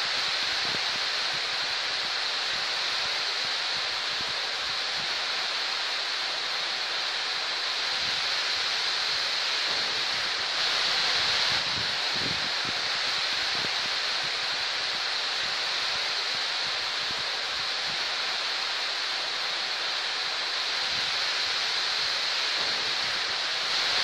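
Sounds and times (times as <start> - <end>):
heavy rain on trees and grass: 0.0 - 24.0.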